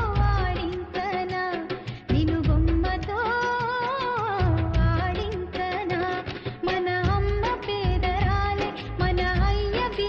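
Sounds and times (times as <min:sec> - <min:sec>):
song with vocals percussion and bass: 0:00.0 - 0:10.0.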